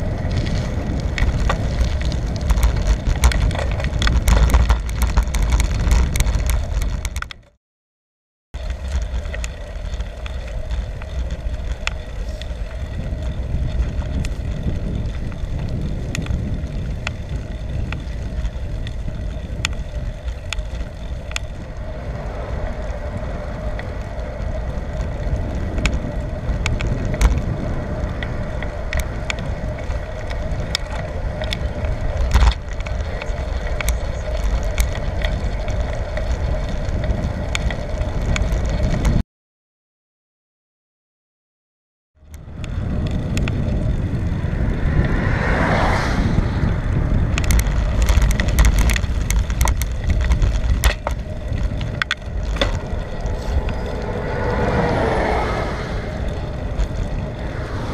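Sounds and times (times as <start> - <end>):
bicycle riding rumble: 0.0 - 7.6, 8.6 - 39.2, 42.2 - 57.9.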